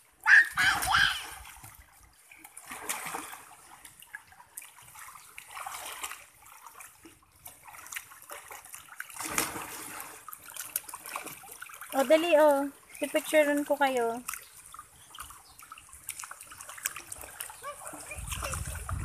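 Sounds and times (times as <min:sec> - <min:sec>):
pool water splashing: 0:00.0 - 0:19.0.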